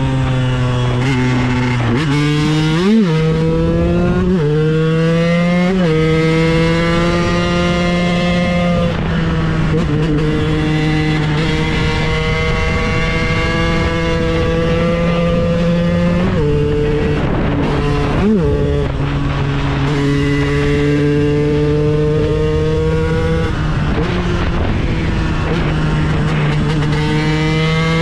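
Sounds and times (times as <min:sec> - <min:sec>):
two-stroke motorcycle engine revving: 0:00.0 - 0:28.0.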